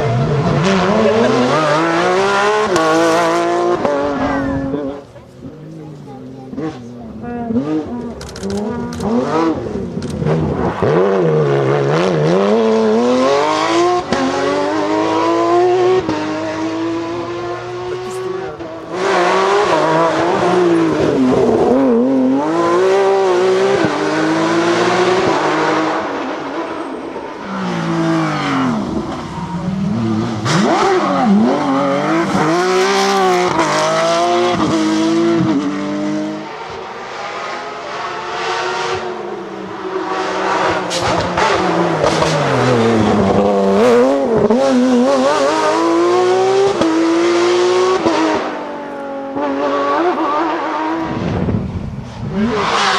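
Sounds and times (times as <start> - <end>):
rally car engine revving hard: 0.0 - 52.9.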